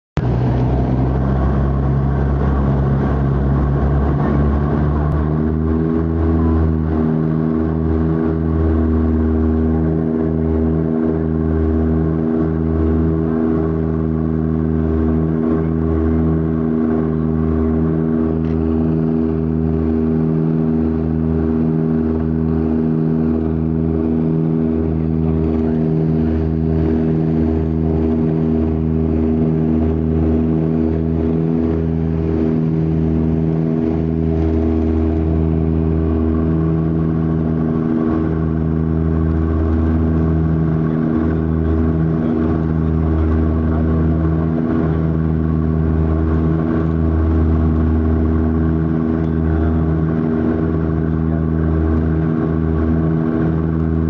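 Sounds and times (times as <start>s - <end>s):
turboprop engine drone in cabin: 0.2s - 54.0s.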